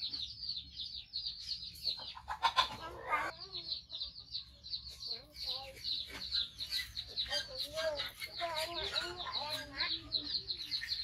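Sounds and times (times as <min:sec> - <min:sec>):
chicks chirping: 0:00.0 - 0:11.0.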